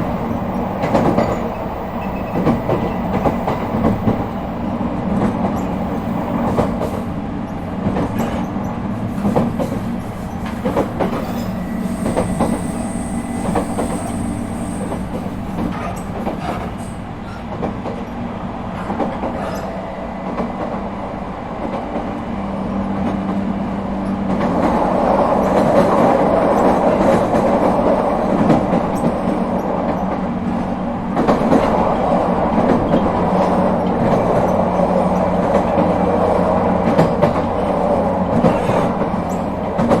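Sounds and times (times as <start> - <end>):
rail joint clicks: 0.0 - 40.0
train wheels rolling on rails: 0.0 - 40.0.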